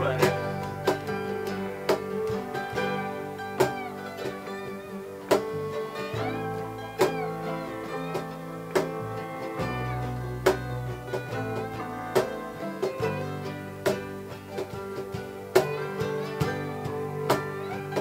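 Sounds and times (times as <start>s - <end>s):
bass guitar: 0.0s - 18.0s
cajon: 0.0s - 18.0s
mandolin: 0.0s - 18.0s
slide guitar gliding between notes: 0.0s - 18.0s
strummed acoustic guitars: 0.0s - 18.0s.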